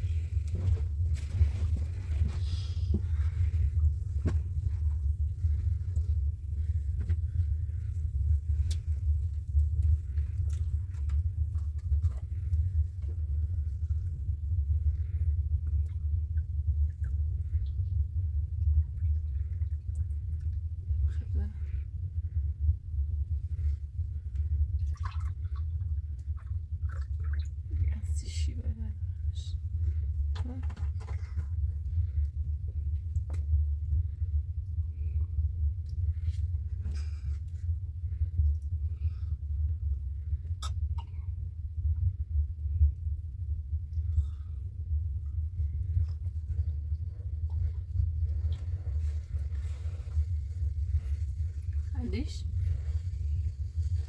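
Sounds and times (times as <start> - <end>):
low rumble: 0.0 - 54.0.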